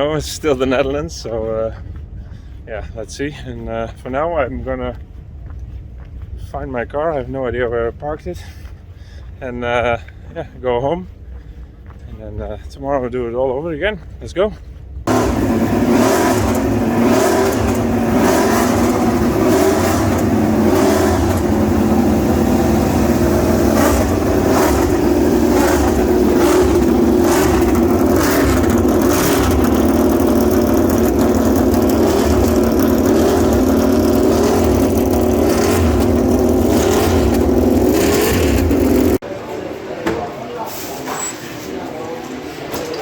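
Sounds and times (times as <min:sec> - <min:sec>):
vehicle engine and road noise: 0:00.0 - 0:39.3.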